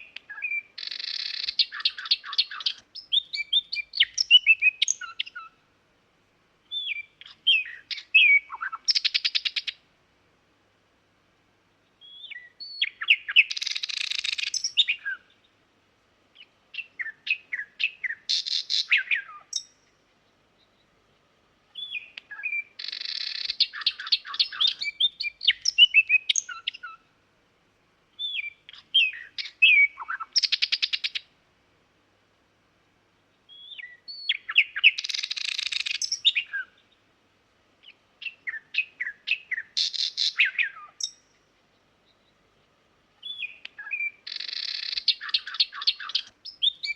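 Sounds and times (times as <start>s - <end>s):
nightingale singing: 0.0s - 5.6s, 6.6s - 9.8s, 11.8s - 15.6s, 16.3s - 21.0s, 21.7s - 27.1s, 28.1s - 31.3s, 33.2s - 37.1s, 37.8s - 46.9s.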